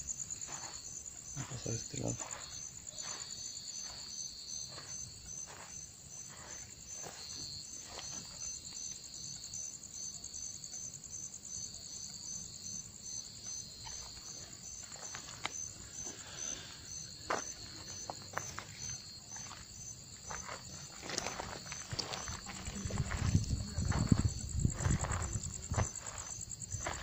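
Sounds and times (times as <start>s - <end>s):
insects chirring: 0.0s - 27.0s
pulsed insect chirp: 0.0s - 27.0s
footsteps on gravel: 0.2s - 8.9s, 13.8s - 27.0s.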